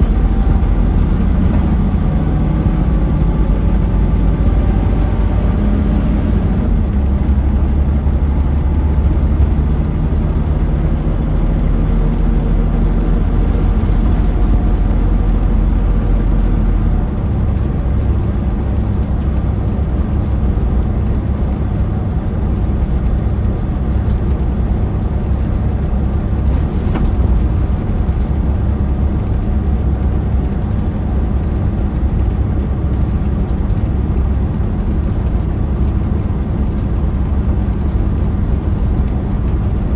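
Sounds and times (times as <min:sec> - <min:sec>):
bus diesel engine rumble: 0:00.0 - 0:39.9
road noise: 0:00.0 - 0:39.9.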